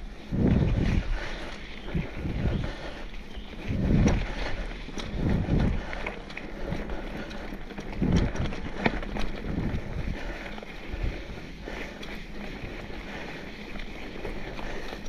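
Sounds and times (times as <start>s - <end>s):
bike clicks and rattles: 0.0s - 15.0s
bike tyre noise on dirt: 0.0s - 15.0s
wind buffeting microphone: 0.0s - 15.0s.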